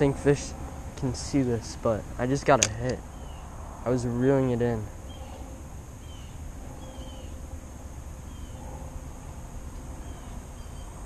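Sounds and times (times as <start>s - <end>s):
high insect buzz: 0.0s - 11.0s.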